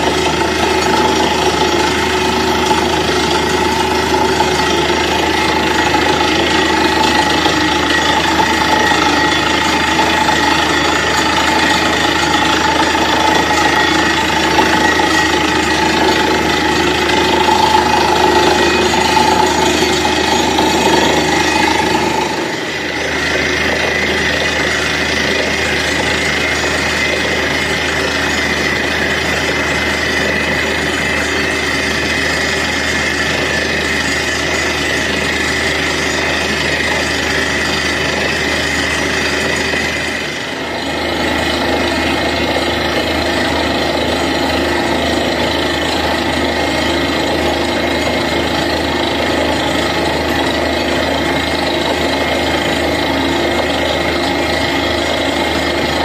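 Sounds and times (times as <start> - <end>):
drilling rig hammering: 0.0 - 56.0.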